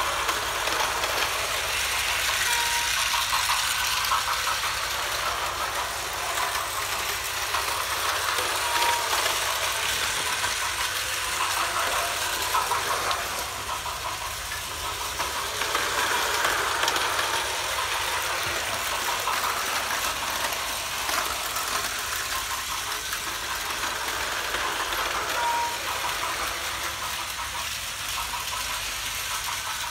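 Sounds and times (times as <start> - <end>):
toy train motor whirring: 0.0 - 29.9
wheels and gears clattering: 0.0 - 29.9.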